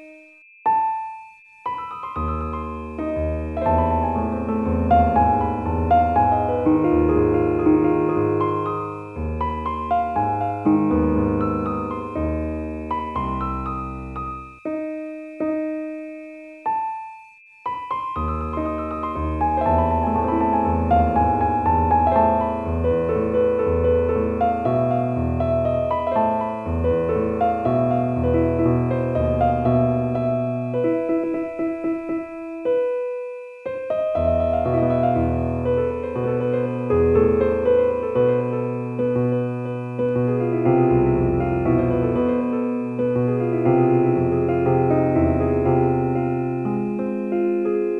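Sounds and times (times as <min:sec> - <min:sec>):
solo piano music: 0:00.0 - 0:47.9.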